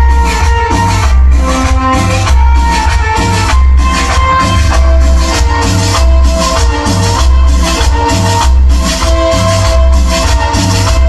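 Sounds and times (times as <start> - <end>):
latin dance music with heavy bass: 0.0 - 11.0.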